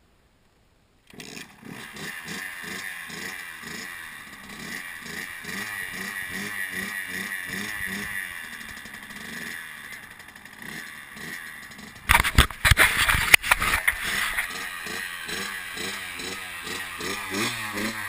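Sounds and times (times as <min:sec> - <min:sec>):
dirt bike engine idling: 0:01.1 - 0:18.0.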